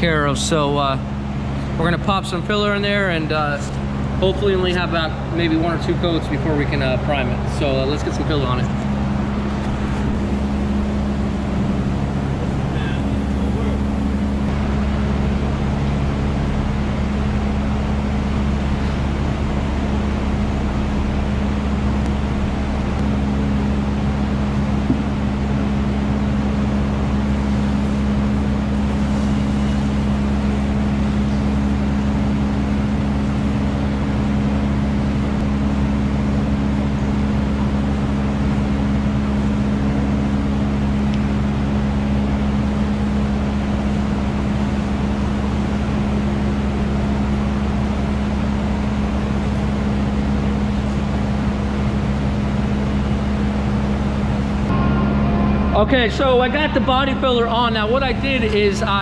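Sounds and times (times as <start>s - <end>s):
machine humming: 0.0s - 59.0s.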